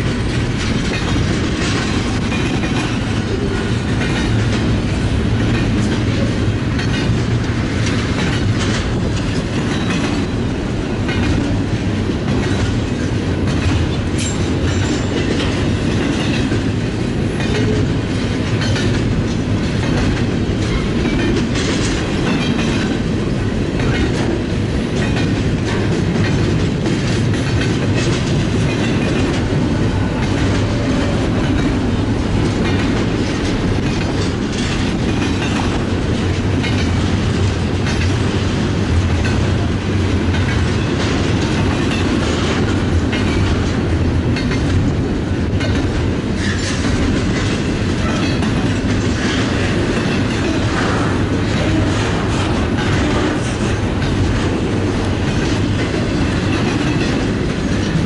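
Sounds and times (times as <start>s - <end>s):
freight train rumble: 0.0s - 58.0s
wheels clacking over rail joints: 0.0s - 58.0s.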